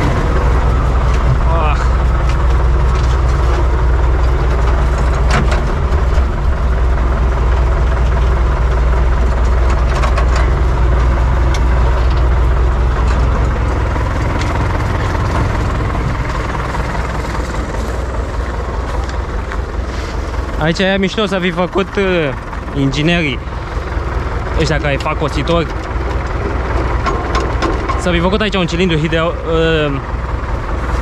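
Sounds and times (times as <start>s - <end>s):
tractor diesel engine idling: 0.0s - 31.0s.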